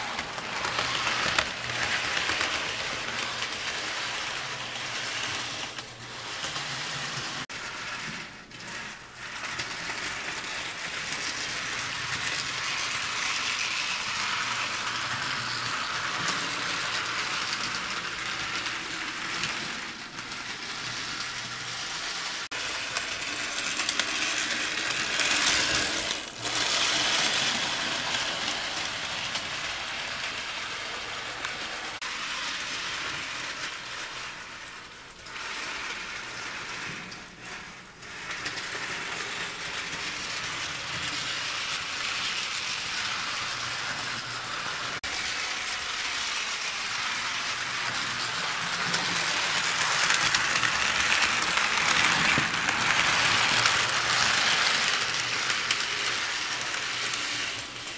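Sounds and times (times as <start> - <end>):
model train rattling on track: 0.0 - 57.9.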